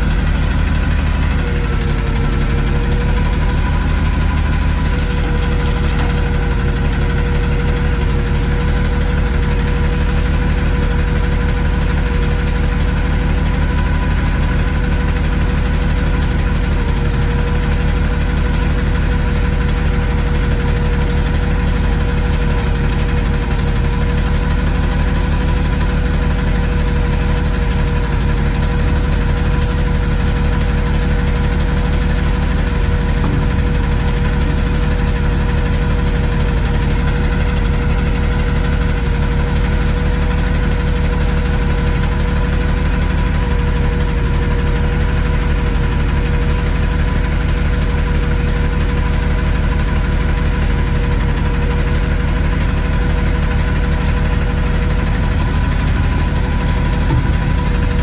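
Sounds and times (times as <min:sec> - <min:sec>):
constant whine: 0:00.0 - 0:58.0
garbage truck engine idling: 0:00.0 - 0:58.0.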